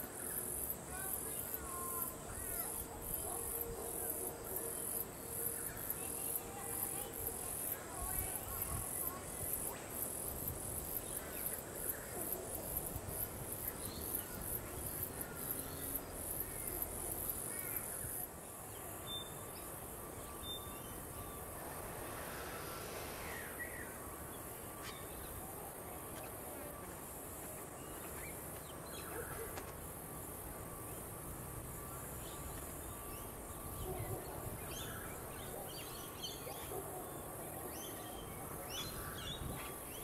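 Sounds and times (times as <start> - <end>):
high-pitched insect chorus: 0.0 - 40.0.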